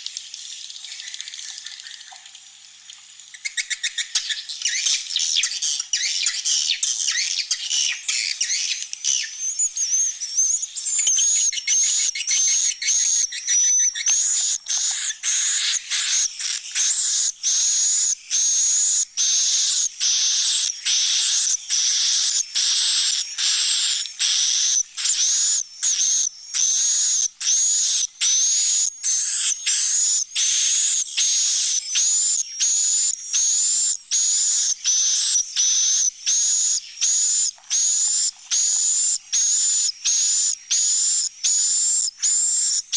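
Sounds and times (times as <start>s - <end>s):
high chirping bird calls: 3.4s - 42.8s.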